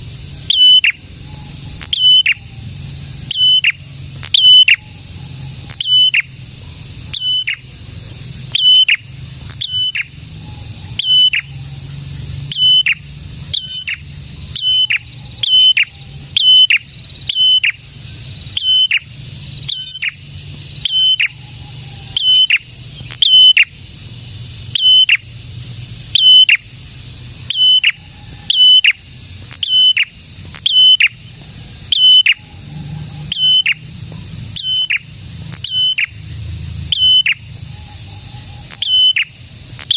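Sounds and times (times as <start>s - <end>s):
bird calling: 0.0s - 39.9s.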